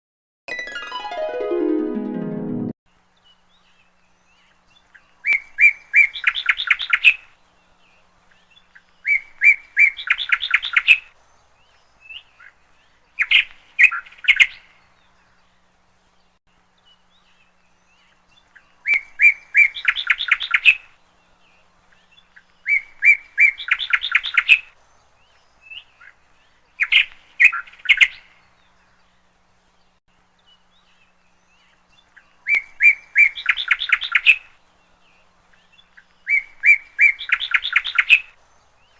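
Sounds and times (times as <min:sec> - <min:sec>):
songbird singing: 0:02.9 - 0:38.9.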